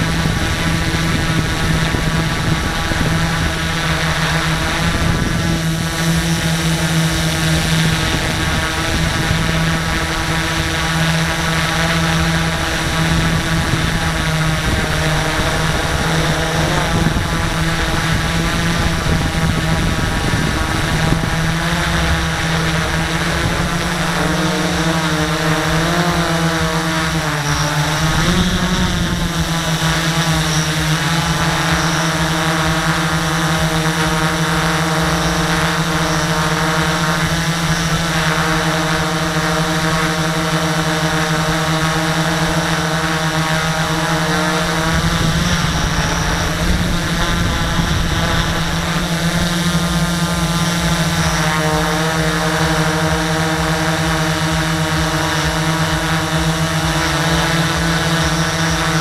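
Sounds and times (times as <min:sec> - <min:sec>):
quadcopter propellers droning: 0:00.0 - 0:59.0.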